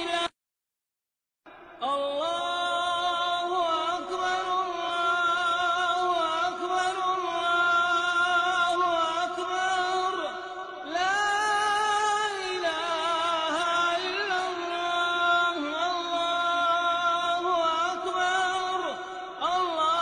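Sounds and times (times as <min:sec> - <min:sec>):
person chanting: 0:00.0 - 0:00.3, 0:01.5 - 0:20.0.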